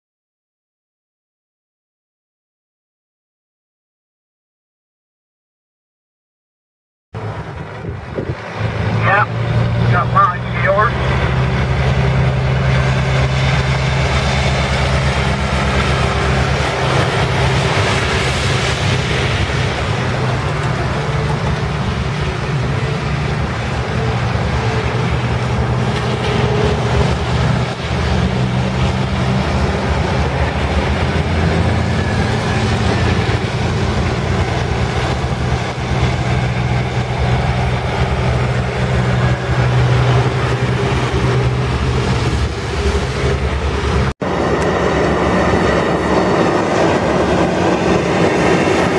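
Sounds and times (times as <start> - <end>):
diesel engines: 7.2 - 48.9
tyres on wet pavement: 7.2 - 48.9.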